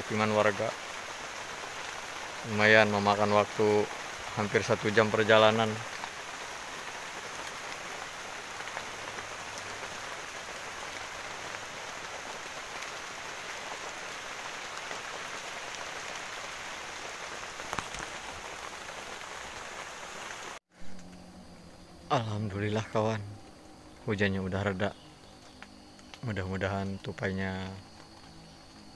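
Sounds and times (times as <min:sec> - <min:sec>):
heavy rain on leaves: 0:00.0 - 0:21.4, 0:23.8 - 0:28.9.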